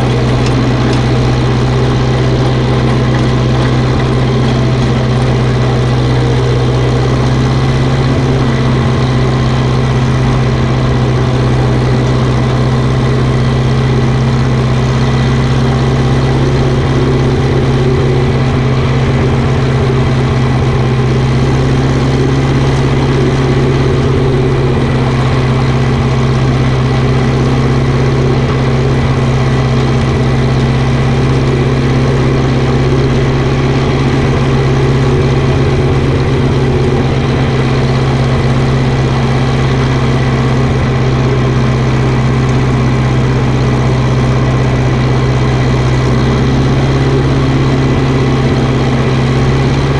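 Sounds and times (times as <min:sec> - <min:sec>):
farm vehicle engine droning: 0:00.0 - 0:49.9.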